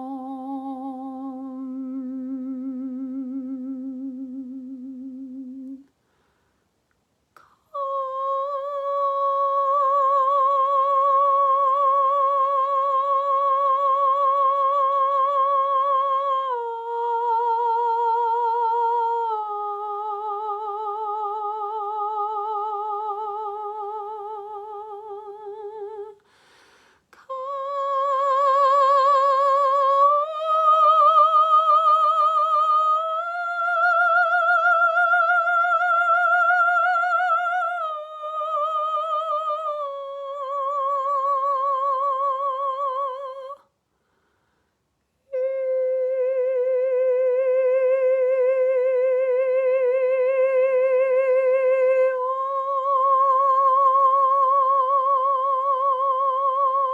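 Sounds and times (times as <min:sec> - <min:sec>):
woman singing wordless tones: 0:00.0 - 0:06.0, 0:07.3 - 0:43.7, 0:45.2 - 0:56.9.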